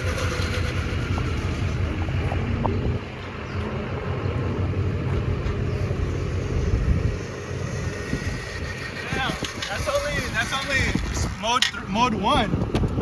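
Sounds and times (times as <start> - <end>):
wind and road noise rumbling: 0.0 - 13.0.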